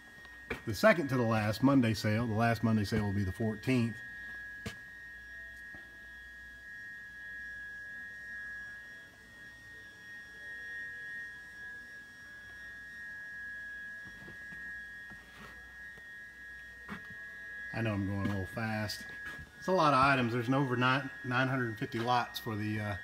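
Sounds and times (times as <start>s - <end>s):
faint low hum: 0.0s - 23.0s
high-pitched two-tone whine: 0.0s - 23.0s.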